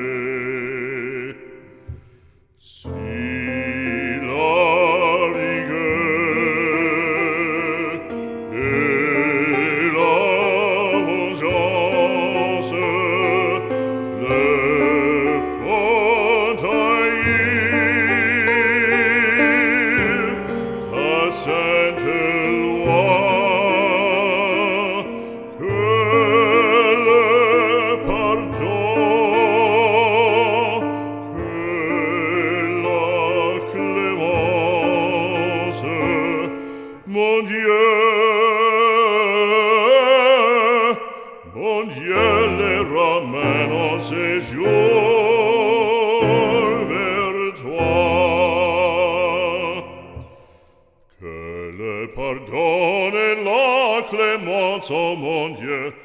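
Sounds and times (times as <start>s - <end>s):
operatic voice singing: 0.0s - 56.0s.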